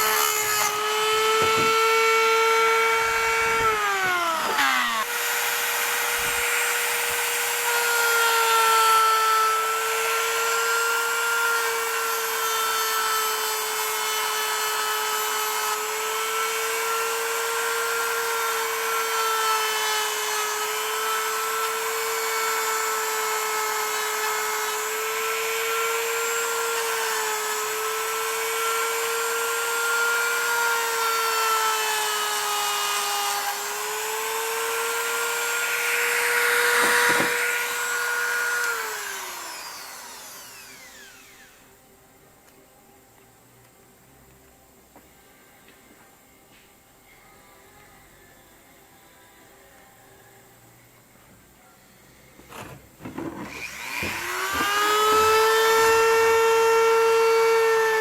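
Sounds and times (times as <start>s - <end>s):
power tool motor whine: 0.0s - 41.7s, 52.5s - 58.0s.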